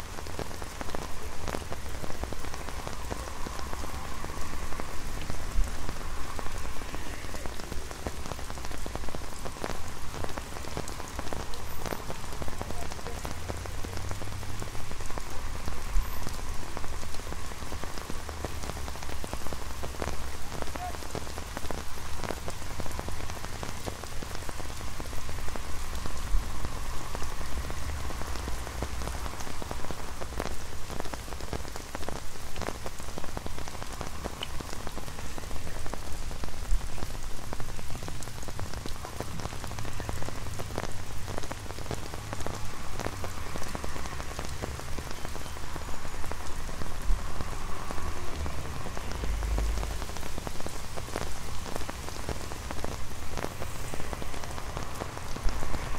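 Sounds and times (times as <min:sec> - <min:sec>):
rain pattering on an umbrella: 0:00.0 - 0:55.9.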